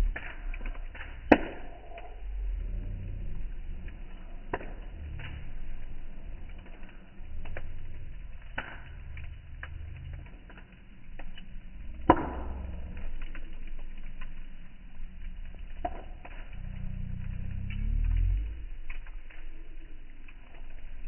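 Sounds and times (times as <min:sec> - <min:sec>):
campfire crackling: 0:00.0 - 0:21.0
low hum rising in pitch: 0:00.0 - 0:21.0
low rumble: 0:00.0 - 0:21.0.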